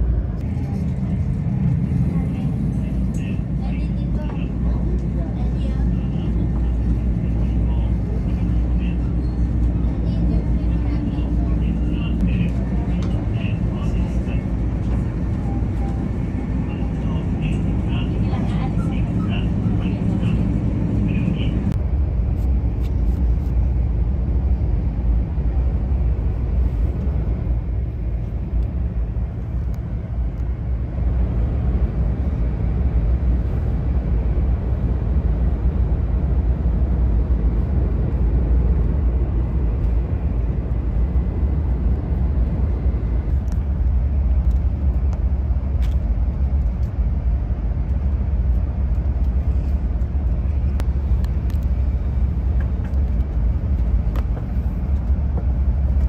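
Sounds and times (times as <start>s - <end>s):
train cabin rumble and hum: 0.0s - 56.0s.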